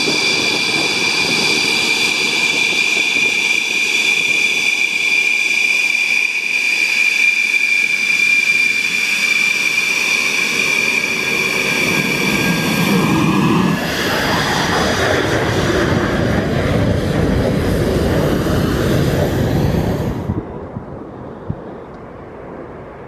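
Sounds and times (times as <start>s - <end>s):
rushing jet exhaust: 0.0s - 20.8s
jet engines whining: 0.0s - 23.0s.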